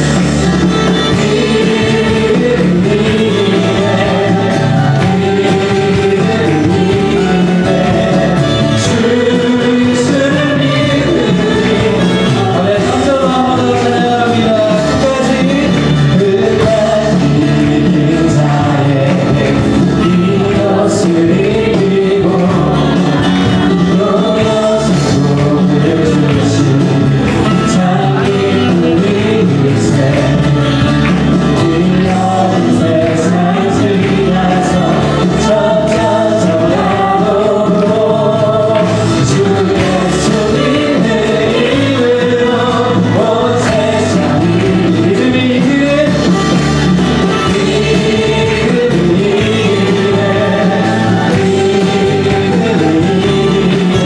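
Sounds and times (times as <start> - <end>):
band playing: 0.0 - 54.0
voices singing together: 0.0 - 54.0.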